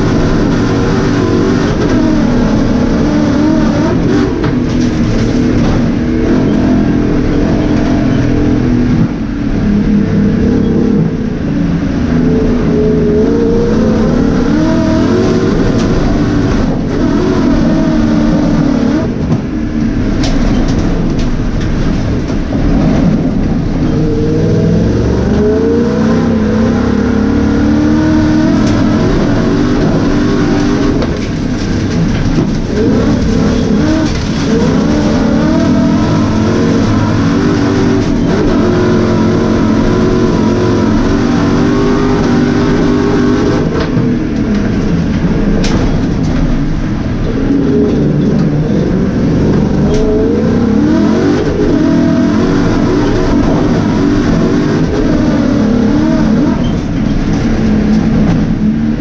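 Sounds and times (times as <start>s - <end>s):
race car engine revving in cabin: 0.0s - 59.0s.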